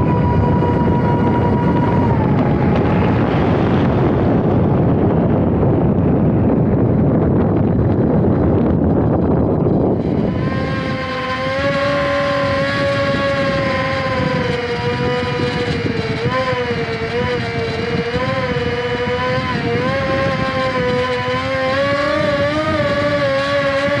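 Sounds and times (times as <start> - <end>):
electric motor and propeller whine: 0.0 - 24.0
wind rushing over microphone: 0.0 - 24.0.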